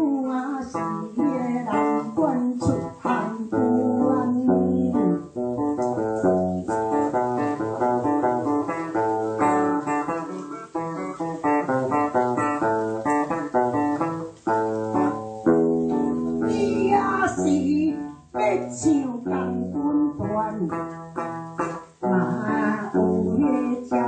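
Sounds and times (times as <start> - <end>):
guitar plucked melody: 0.0 - 24.0.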